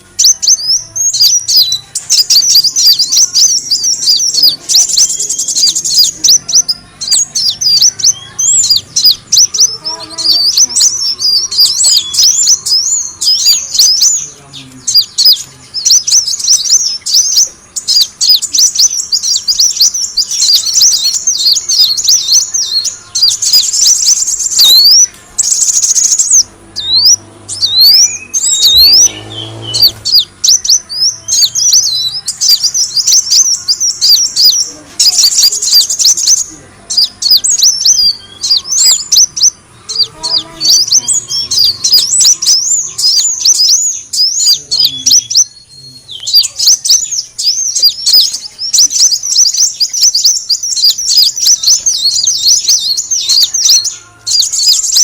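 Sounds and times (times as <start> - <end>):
bird chirping and twittering: 0.0 - 55.0.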